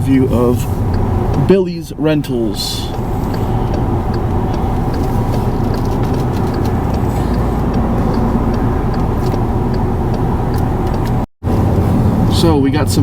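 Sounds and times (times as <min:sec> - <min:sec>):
faint regular ticking: 0:00.0 - 0:11.3
road and engine rumble: 0:00.0 - 0:13.0.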